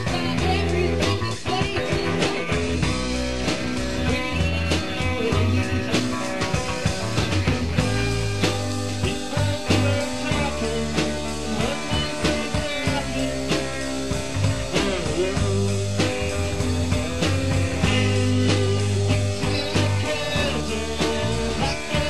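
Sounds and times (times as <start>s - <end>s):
bass notes: 0.0s - 22.0s
drum beat: 0.0s - 22.0s
electric guitar: 0.0s - 22.0s
psychedelic rock song: 0.0s - 22.0s.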